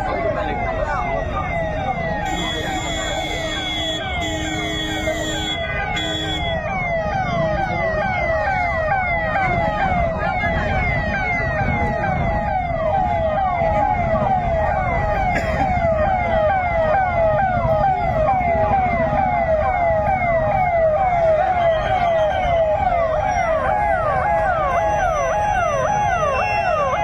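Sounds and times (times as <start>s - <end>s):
higher siren: 0.0s - 27.0s
road traffic rumble: 0.0s - 27.0s
siren wailing: 0.0s - 27.0s.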